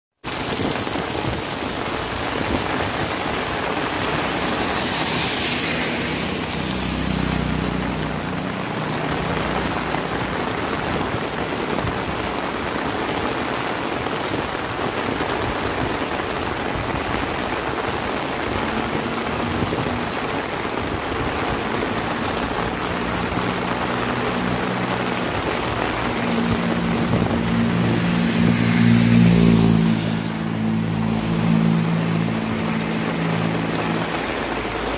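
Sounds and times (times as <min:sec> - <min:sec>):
heavy rain: 0:00.1 - 0:34.9
vehicle hissing past on wet road: 0:00.3 - 0:13.0, 0:18.1 - 0:34.9
vehicle engine approaching: 0:01.3 - 0:13.6, 0:18.0 - 0:34.9.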